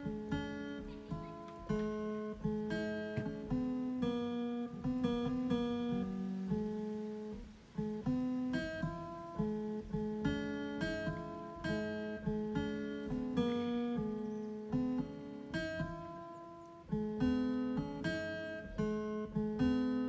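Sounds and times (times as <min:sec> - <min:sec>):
plucked keyboard melody: 0:00.0 - 0:20.0.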